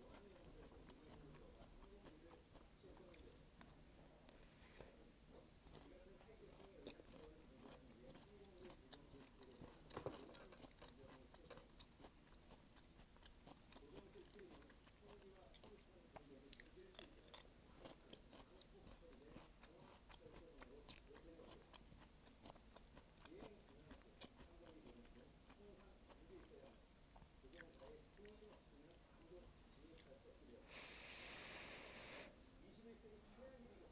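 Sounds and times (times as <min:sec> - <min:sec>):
close-up chewing: 0:00.0 - 0:33.9.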